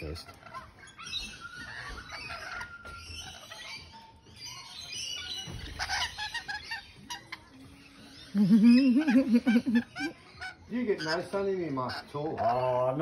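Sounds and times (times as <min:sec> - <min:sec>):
lorikeets chattering: 0:00.0 - 0:13.0.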